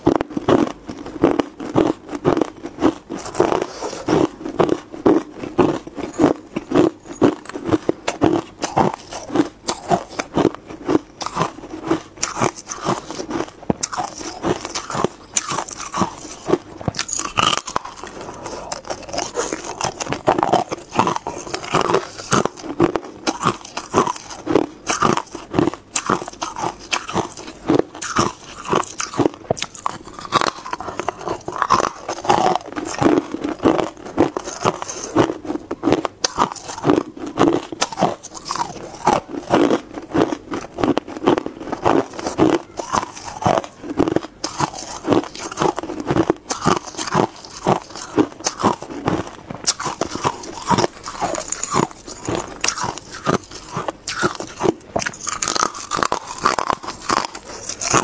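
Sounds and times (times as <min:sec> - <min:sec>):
ice crunched between teeth: 0:00.0 - 0:58.0.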